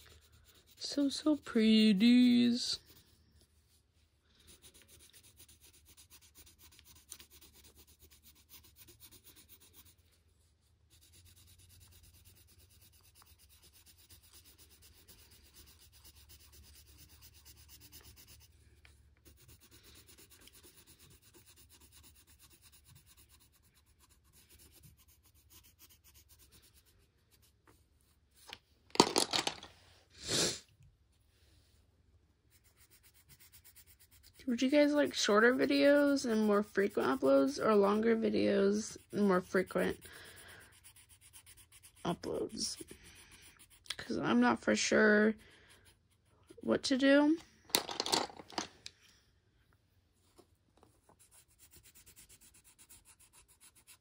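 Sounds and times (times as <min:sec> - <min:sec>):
pencil scratching on paper: 0:00.0 - 0:29.6, 0:32.4 - 0:48.7, 0:51.0 - 0:54.0.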